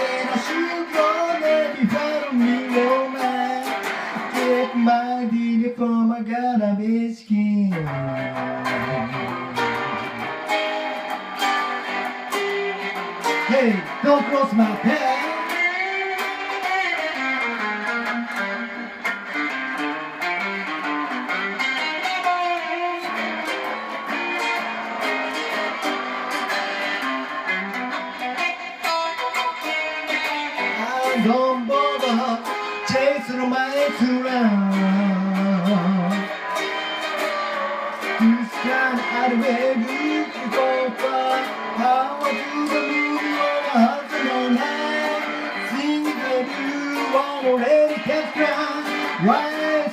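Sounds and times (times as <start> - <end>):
electric guitar playing rockabilly: 0.0 - 49.9.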